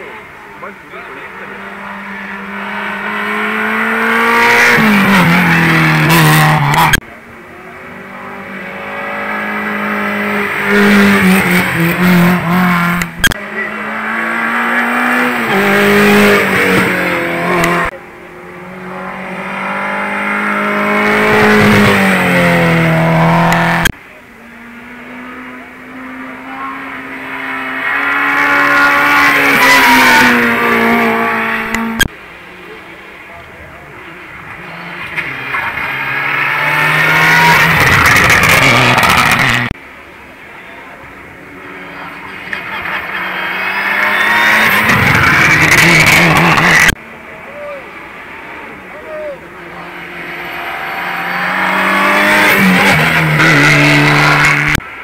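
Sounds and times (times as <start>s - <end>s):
race car engine at full throttle: 0.0s - 55.0s
race car passing close: 7.8s - 39.8s, 41.6s - 47.0s, 47.8s - 55.0s.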